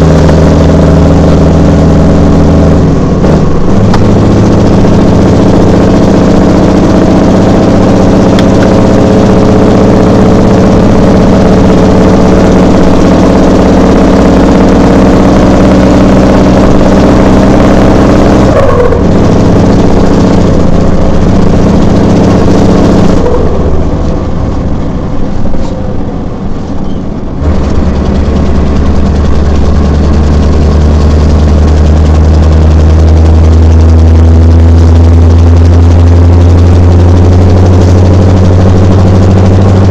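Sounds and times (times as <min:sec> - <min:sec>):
deep steady low hum: 0:00.0 - 0:39.9
diesel truck engine running: 0:00.0 - 0:39.9.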